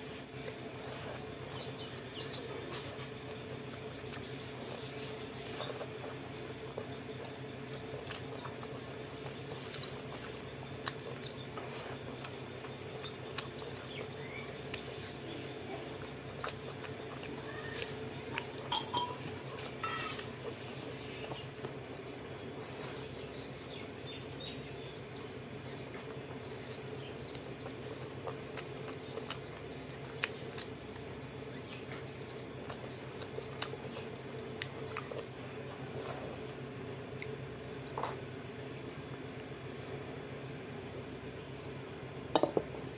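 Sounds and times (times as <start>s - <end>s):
steady low hum: 0.0s - 42.9s
wet chewing and lip smacks: 0.2s - 39.7s.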